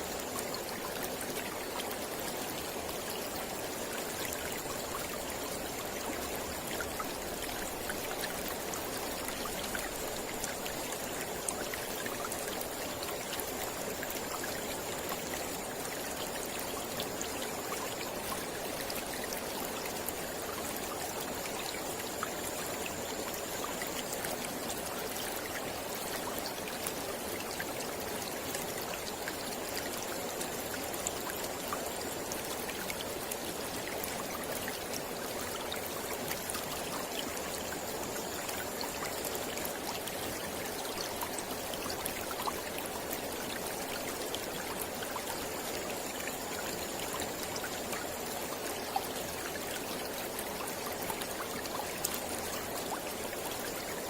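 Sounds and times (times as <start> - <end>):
small splashes and trickles: 0.0 - 54.0.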